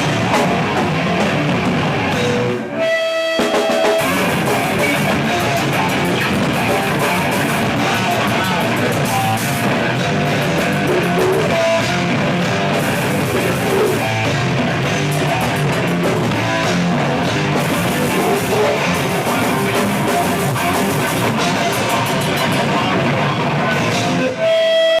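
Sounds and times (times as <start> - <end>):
distorted electric guitar: 0.0 - 25.0
drum kit: 0.0 - 25.0.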